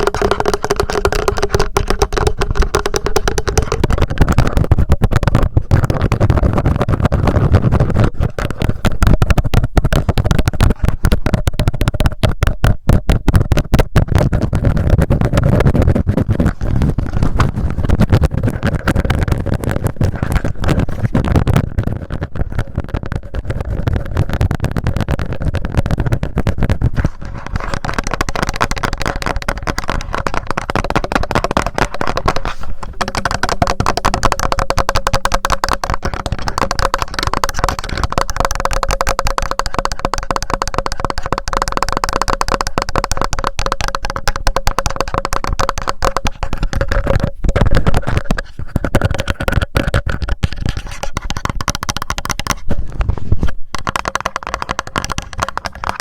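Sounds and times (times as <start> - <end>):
fast tapping on recorder microphones: 0.0 - 56.0.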